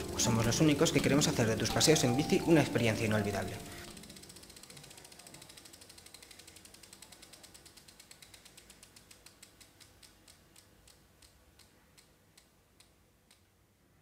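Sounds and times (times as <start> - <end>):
bicycle freewheel ratchet ticking: 0.0 - 13.5.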